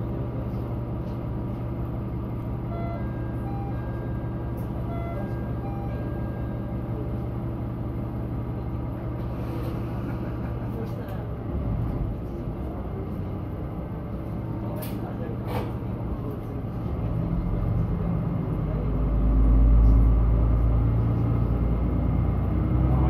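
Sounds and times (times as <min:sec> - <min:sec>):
diesel railcar engine: 0:00.0 - 0:23.0.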